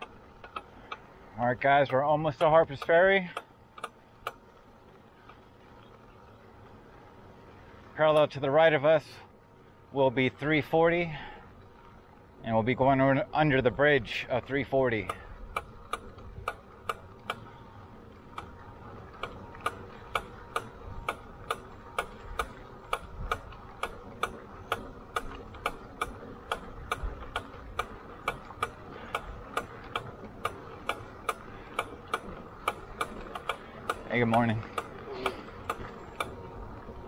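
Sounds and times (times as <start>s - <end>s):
sharp regular ticking: 0.0s - 37.0s
tyres rumbling on gravel: 0.0s - 37.0s.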